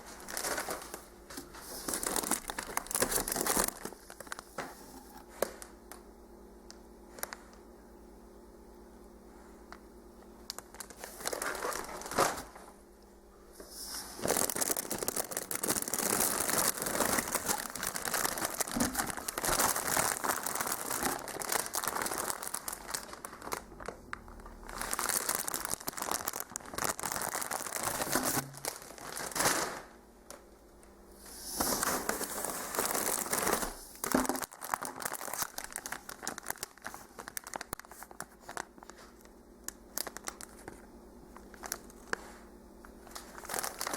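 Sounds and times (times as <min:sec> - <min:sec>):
plastic packaging crinkling: 0:00.0 - 0:05.8, 0:10.3 - 0:12.8, 0:13.6 - 0:30.5, 0:31.2 - 0:43.9.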